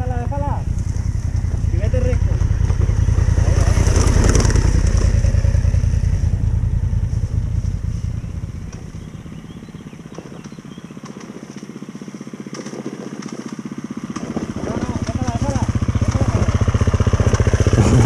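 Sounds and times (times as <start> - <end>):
motorcycle engine passing: 0.0 - 18.0
pulsing engine idle: 0.0 - 18.0.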